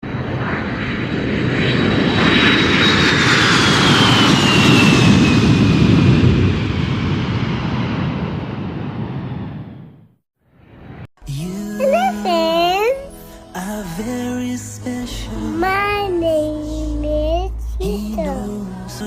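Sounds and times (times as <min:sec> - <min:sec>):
airplane flying over: 0:00.0 - 0:19.0.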